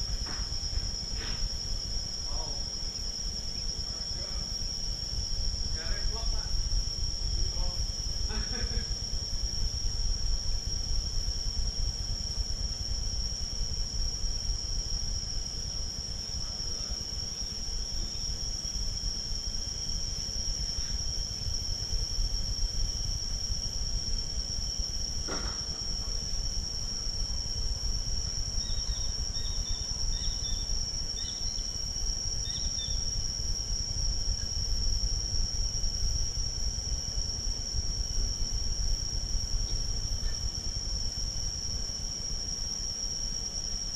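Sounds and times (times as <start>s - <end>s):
high-pitched insect drone: 0.0s - 43.9s.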